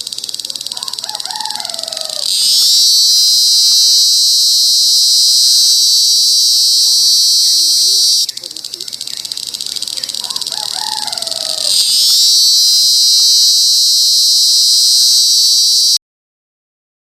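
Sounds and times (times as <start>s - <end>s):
high insect song buzzing: 0.0s - 16.0s.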